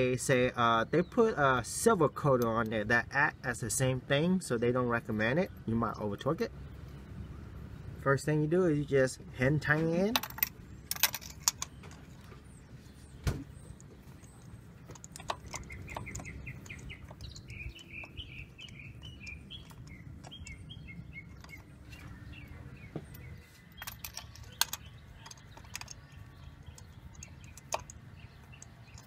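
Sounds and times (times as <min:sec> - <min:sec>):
bird chirping: 0:00.0 - 0:29.0
low background rumble: 0:01.6 - 0:29.0.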